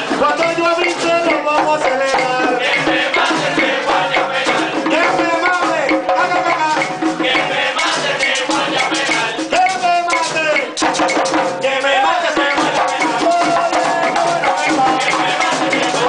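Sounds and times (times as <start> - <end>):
frame drums beating: 0.0 - 16.0
gourd percussion scraping: 0.0 - 16.0
men singing together: 0.0 - 16.0.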